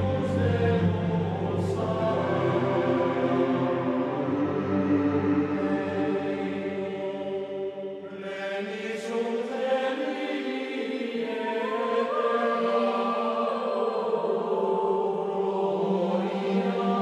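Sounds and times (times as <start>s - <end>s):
chant-like voices: 0.0s - 17.0s
slow music with long held notes: 0.0s - 17.0s.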